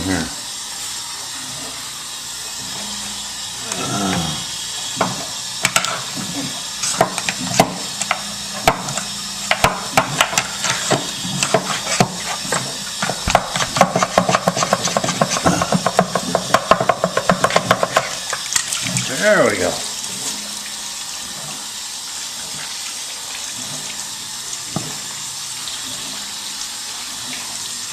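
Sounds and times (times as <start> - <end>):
water hissing through drain: 0.0 - 27.9.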